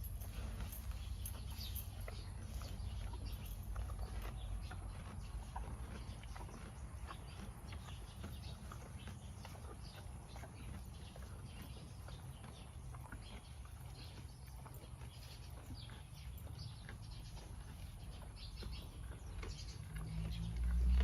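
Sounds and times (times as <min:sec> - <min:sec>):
cow tearing and chewing grass: 0:00.0 - 0:21.0.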